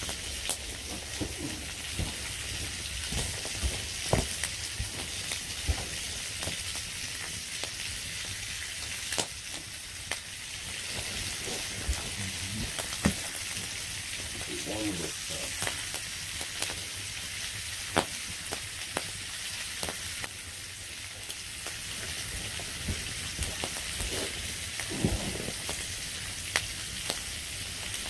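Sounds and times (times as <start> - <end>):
meat sizzling over fire: 0.0 - 28.0.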